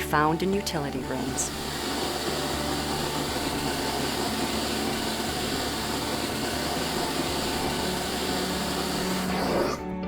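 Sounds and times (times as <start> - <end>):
vacuum suction air rush: 1.1 - 9.9.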